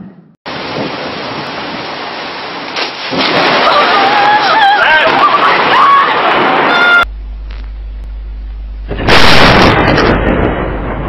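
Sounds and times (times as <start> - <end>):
heavy rain: 0.5 - 7.6, 8.8 - 11.0.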